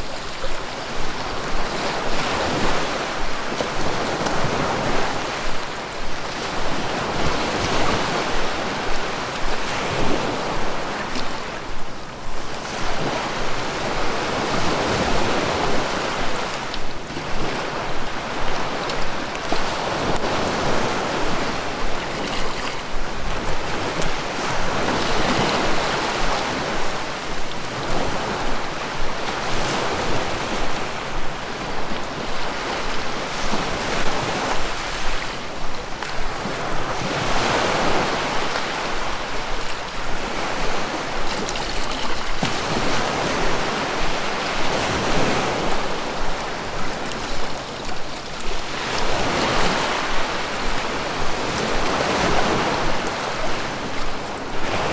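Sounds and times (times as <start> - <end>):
waves breaking on a beach: 0.0 - 54.9.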